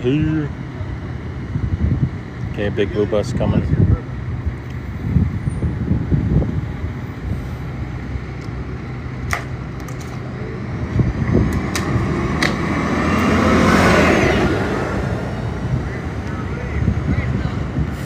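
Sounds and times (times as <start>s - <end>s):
bus driving past: 0.0s - 18.0s
low hum of traffic: 0.0s - 18.0s.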